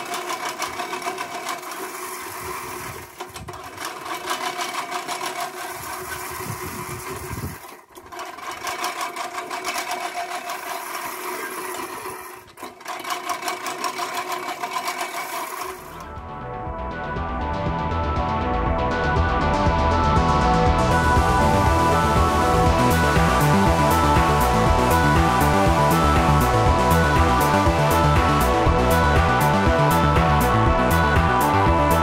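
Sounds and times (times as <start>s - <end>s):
push reel mower blades whirring: 0.0s - 16.2s, 20.9s - 31.3s.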